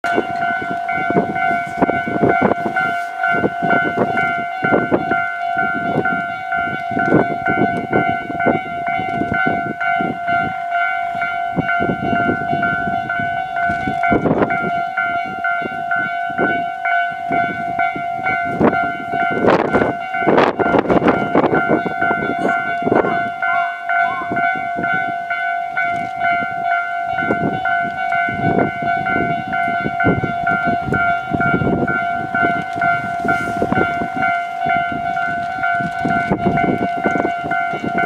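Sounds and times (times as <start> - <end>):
level crossing bell ringing: 0.0 - 38.0
train wheels on rails: 0.0 - 38.0.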